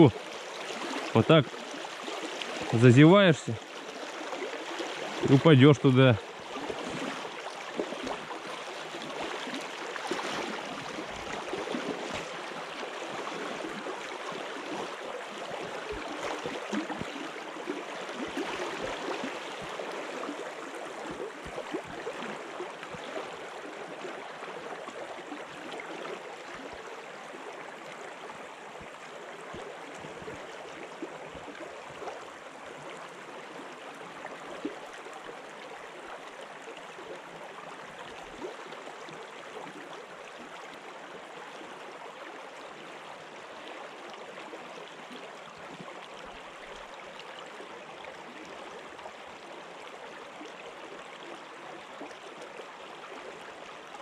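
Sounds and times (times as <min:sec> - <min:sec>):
river water rushing: 0:00.0 - 0:45.1.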